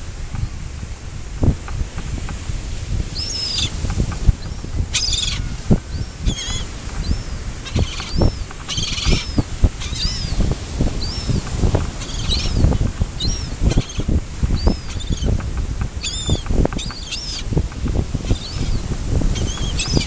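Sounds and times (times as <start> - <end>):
small birds calling: 3.1 - 20.0.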